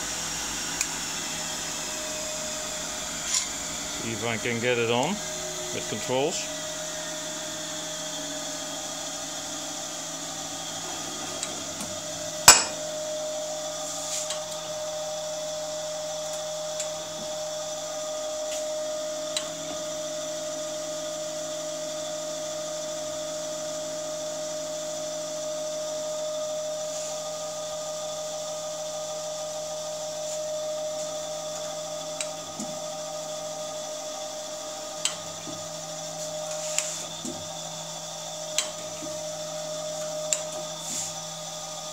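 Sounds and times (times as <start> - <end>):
surface grinder humming and whining: 0.0 - 41.9.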